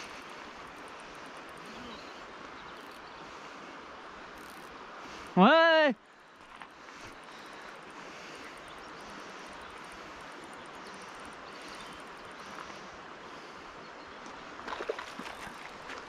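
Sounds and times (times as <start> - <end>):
fast-flowing river: 0.0 - 16.0.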